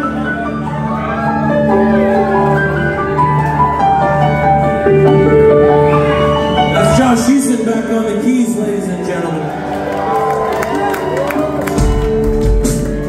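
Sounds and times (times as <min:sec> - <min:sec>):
live rock band playing: 0:00.0 - 0:08.6, 0:09.5 - 0:13.0.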